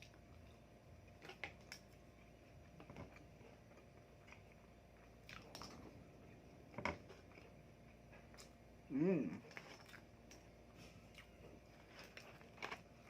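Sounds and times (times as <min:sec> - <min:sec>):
chewing: 0:01.1 - 0:08.6, 0:09.3 - 0:13.0.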